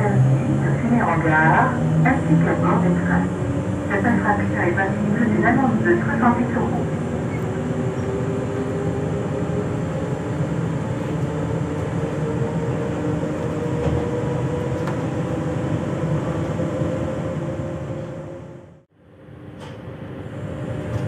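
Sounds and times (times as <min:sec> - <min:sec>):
train electrical hum: 0:00.0 - 0:21.0.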